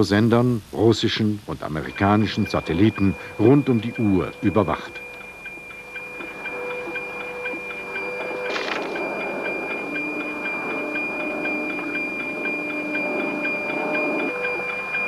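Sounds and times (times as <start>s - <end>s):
high whistle-like tone with ticking: 0.8s - 15.0s.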